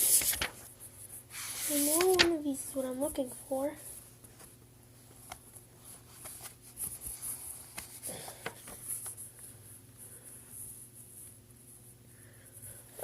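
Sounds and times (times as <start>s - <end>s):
faint electrical hum and hiss: 0.0s - 13.0s.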